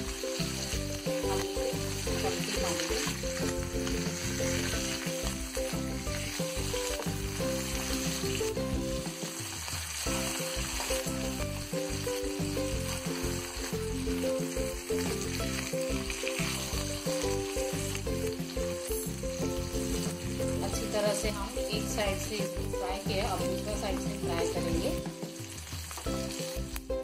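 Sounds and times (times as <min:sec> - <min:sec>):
spatula turning fish: 0:00.0 - 0:26.9
background music: 0:00.0 - 0:27.0
fish sizzling in hot oil: 0:00.0 - 0:27.0.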